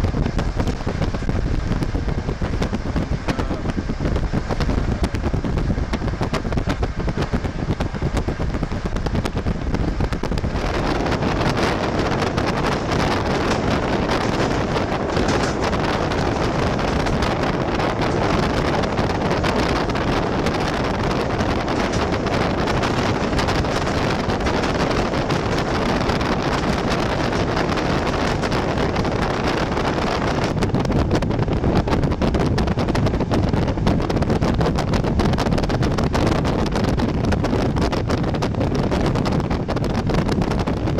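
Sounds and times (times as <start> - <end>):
train rumble with rushing wind: 0.0 - 40.9.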